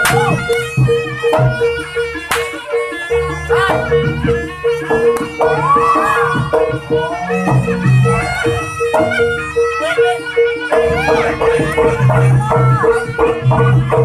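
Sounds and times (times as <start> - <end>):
drums: 0.0 - 14.0
reedy wind instrument melody: 0.0 - 14.0
repeated metallic note: 0.0 - 14.0.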